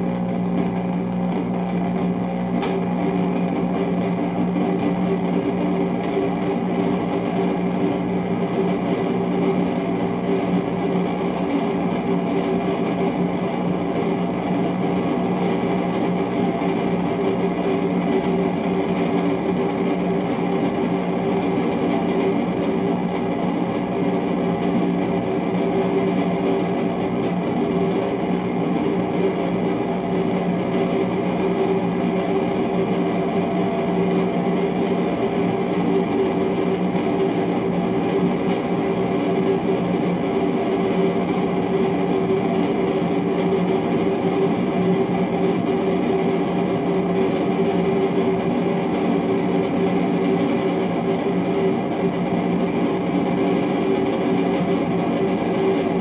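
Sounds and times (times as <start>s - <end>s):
amplified dense noise with tones: 0.0s - 56.0s.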